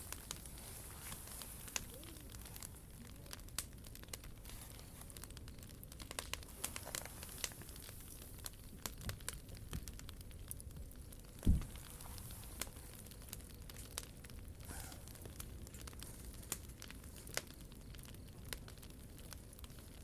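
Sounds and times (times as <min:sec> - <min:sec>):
faint steady hiss: 0:00.0 - 0:20.0
wood fire crackling and popping: 0:00.0 - 0:20.0.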